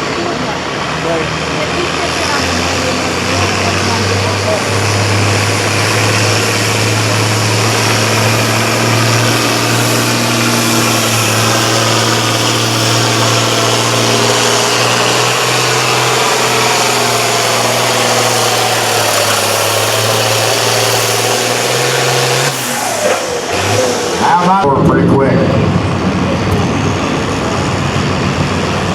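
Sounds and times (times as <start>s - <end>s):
tractor engine under heavy load: 0.0s - 28.9s.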